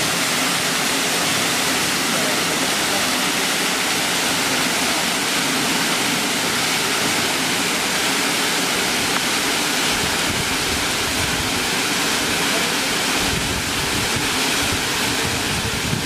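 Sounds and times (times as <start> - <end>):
waterfall rushing onto rocks: 0.0 - 16.0.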